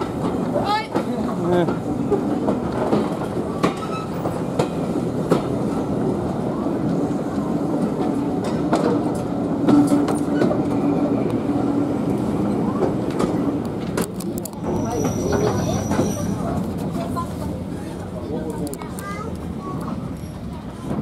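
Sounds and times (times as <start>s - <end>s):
railway carriage rumble: 0.0s - 21.0s.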